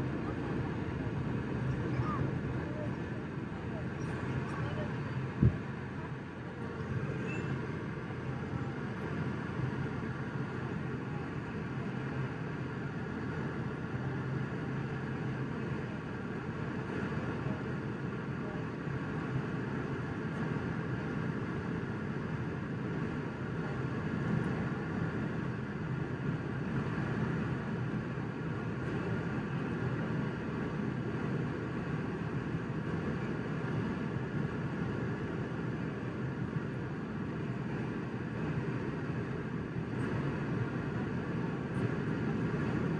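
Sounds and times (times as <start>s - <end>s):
faint high hum: 0.0s - 42.9s
jet engine and airflow rush: 0.0s - 42.9s.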